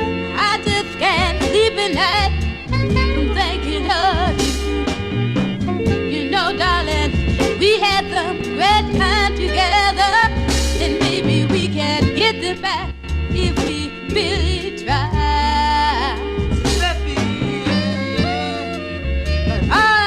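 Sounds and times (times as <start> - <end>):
soul song with vocal and band: 0.0 - 20.0.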